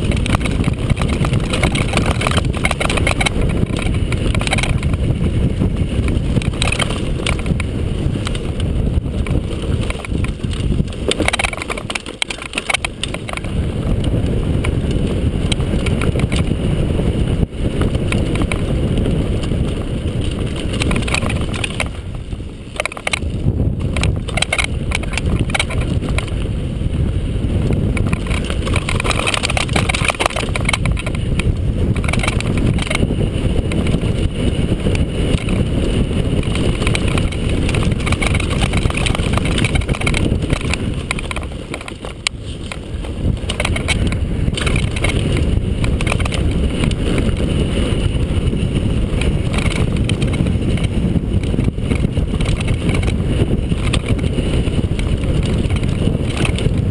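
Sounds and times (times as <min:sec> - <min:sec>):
bike rattling over stones: 0:00.0 - 0:56.9
tyres rumbling on gravel: 0:00.0 - 0:56.9
wind buffeting microphone: 0:00.0 - 0:56.9.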